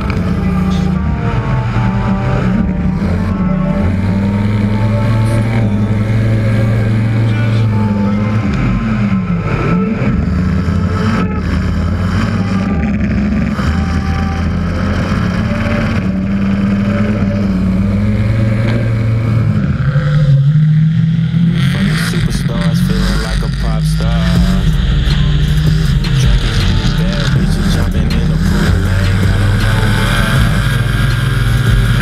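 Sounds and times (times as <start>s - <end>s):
car engine revving high: 0.0s - 32.0s.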